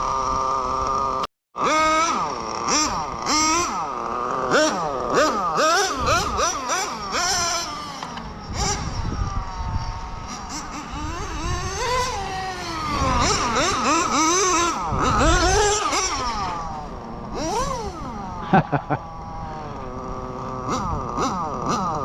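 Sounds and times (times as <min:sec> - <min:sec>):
rc car engine screaming: 0:00.0 - 0:22.0.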